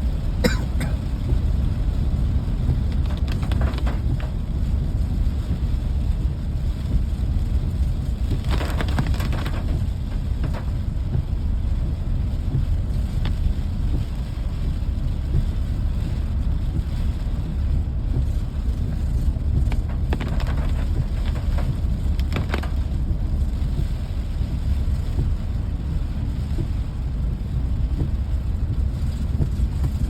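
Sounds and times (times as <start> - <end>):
low rain rumble: 0.0 - 30.0
rain crackles and patters: 0.0 - 30.0.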